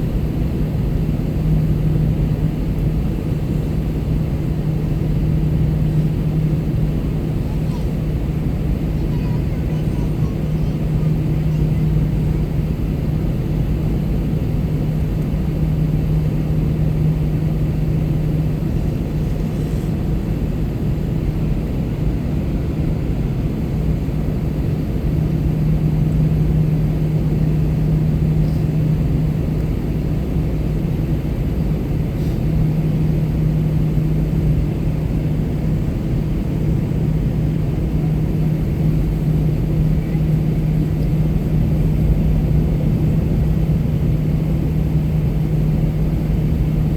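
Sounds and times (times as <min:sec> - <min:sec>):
airplane engines and airflow droning: 0:00.0 - 0:46.9.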